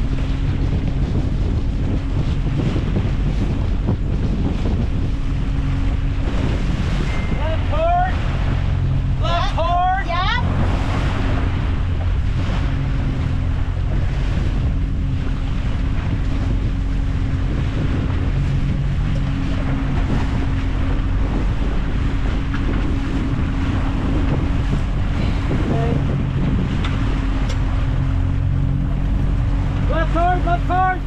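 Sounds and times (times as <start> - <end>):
outboard motors running: 0.0 - 31.0
water rushing past hull: 0.0 - 31.0
wind buffeting microphone: 0.0 - 31.0.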